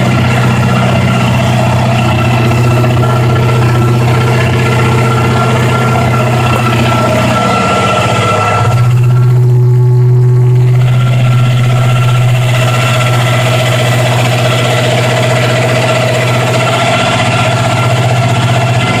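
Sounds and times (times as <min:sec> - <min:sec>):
supercharged engine idling: 0:00.0 - 0:19.0.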